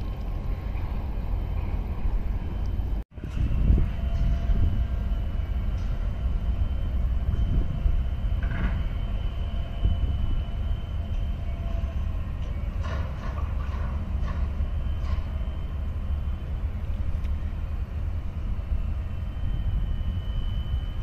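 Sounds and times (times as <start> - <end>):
distant ship and machinery rumble: 0.0 - 21.0.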